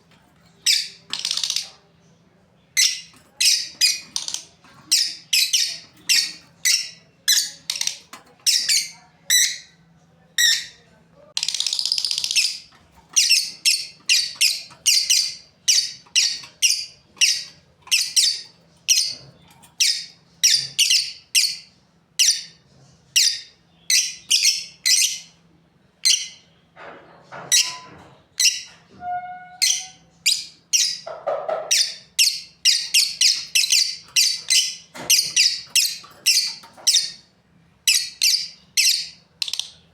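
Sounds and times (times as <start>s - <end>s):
lovebirds chirping: 0.0s - 26.7s, 29.6s - 39.9s.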